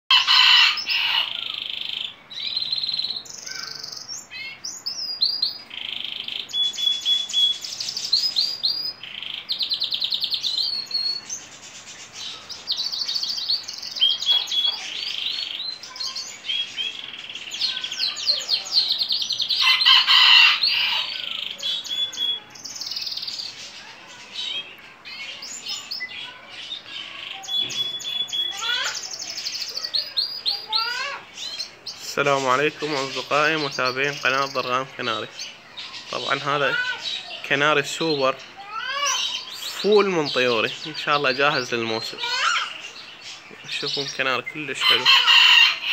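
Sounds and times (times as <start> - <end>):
canary singing: 0.1 - 45.9.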